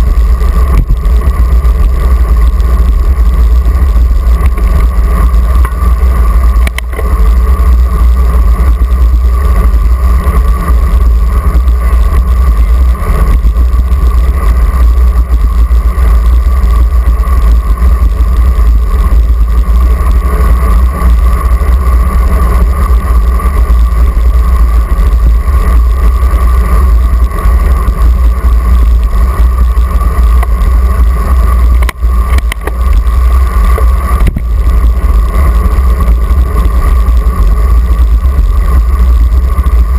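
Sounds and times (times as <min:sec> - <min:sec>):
constant hum: 0:00.0 - 0:39.9
wind rushing over microphone: 0:00.0 - 0:39.9.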